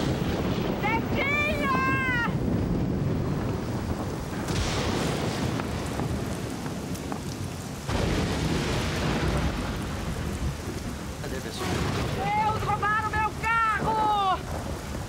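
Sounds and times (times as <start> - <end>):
heavy pouring rain: 0.0 - 15.0
low thunder rumble: 0.0 - 15.0
thunder crack: 0.0 - 15.0.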